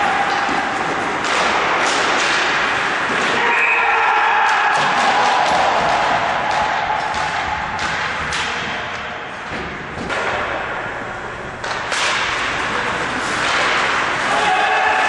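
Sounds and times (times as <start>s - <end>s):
hockey sticks and puck knocks: 0.0s - 10.8s, 11.5s - 15.0s.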